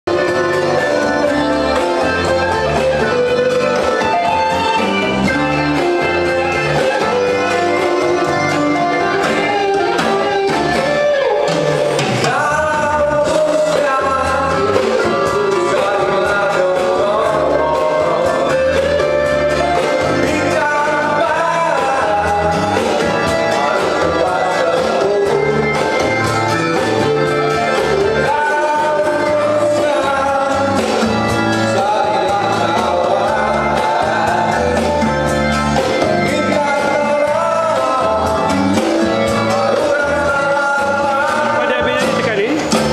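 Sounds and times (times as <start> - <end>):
instrumental backing music: 0.0 - 42.9
man singing into microphone: 0.1 - 11.3, 12.2 - 42.9.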